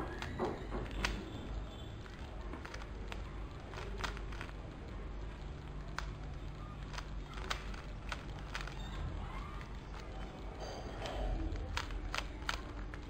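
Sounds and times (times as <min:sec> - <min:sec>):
plastic puzzle cube clicking: 0:00.0 - 0:13.0.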